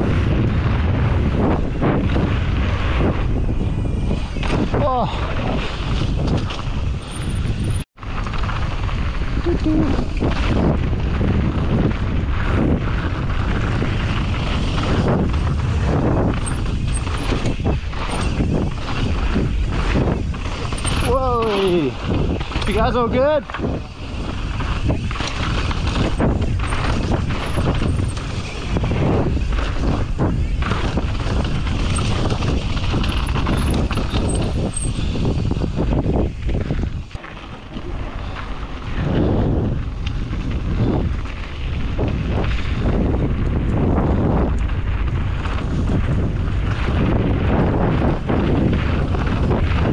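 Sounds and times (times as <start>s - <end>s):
bike knocking and rattling: 0.0s - 49.9s
tyres rumbling on dirt and rock: 0.0s - 49.9s
wind buffeting microphone: 0.0s - 49.9s.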